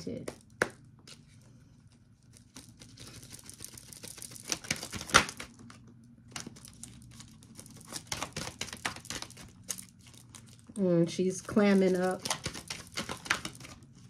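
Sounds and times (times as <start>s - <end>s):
cards shuffling: 0.1s - 1.6s, 2.2s - 14.0s.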